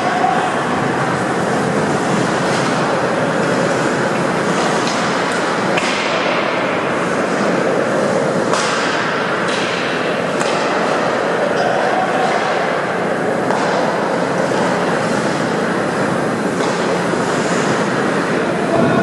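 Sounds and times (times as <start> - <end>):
skates on ice: 1.6 - 12.6, 13.4 - 18.8
hockey sticks and puck knocks: 2.1 - 15.6, 16.4 - 18.9.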